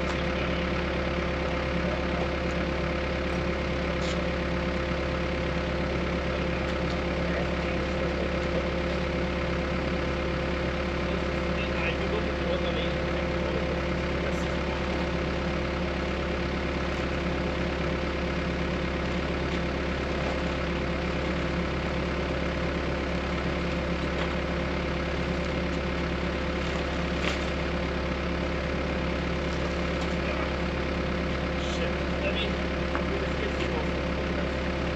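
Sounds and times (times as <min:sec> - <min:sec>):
engine idling: 0:00.0 - 0:34.9.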